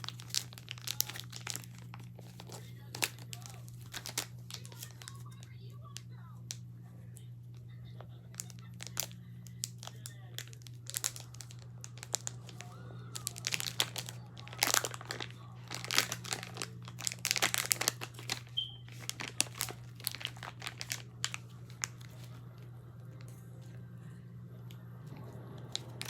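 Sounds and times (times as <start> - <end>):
plastic packaging crinkling: 0.0 - 6.6, 7.9 - 23.7, 25.2 - 26.0.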